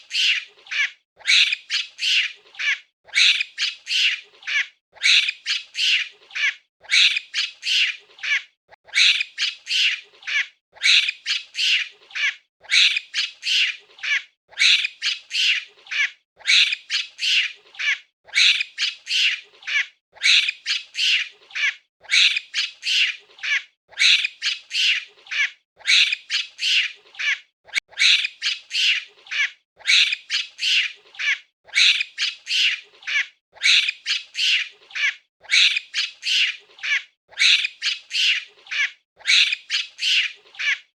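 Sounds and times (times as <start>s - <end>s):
monkey calls: 0.0s - 40.9s.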